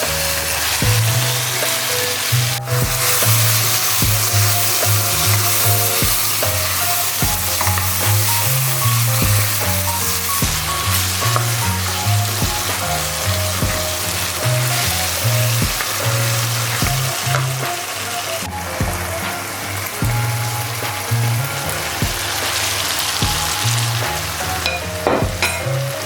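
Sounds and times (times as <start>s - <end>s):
background music with bass and beat: 0.0s - 26.0s
food sizzling in a pan: 0.0s - 26.0s.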